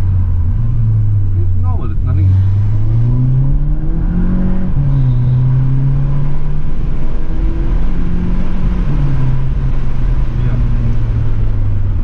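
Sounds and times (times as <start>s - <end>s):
car exhaust rumble: 0.0s - 12.0s
road noise: 0.0s - 12.0s.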